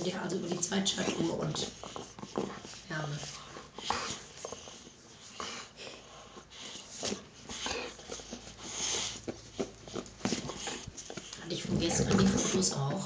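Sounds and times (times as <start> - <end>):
dog breathing: 0.0 - 13.0
dog chewing plush toy: 0.0 - 13.0.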